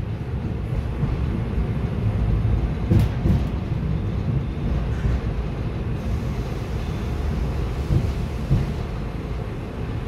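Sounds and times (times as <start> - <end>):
wheels rumbling on track: 0.0 - 10.0.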